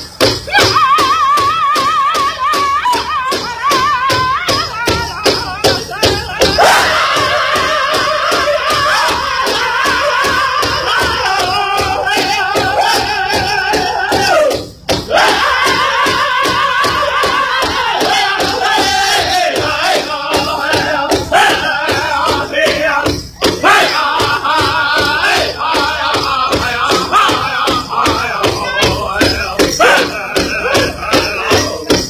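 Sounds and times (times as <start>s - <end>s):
big drum steady beat: 0.0s - 32.0s
group singing high-pitched in unison: 0.5s - 32.0s.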